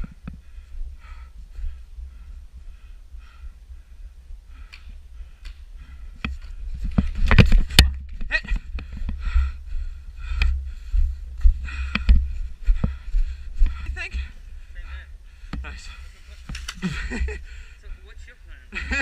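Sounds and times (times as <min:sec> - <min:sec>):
wind rumble on microphone: 0:00.0 - 0:15.7.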